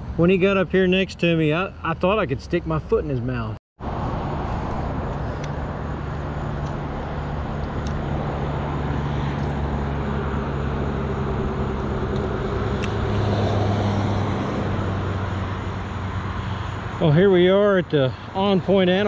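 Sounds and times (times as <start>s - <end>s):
highway traffic hum: 0.0s - 19.0s.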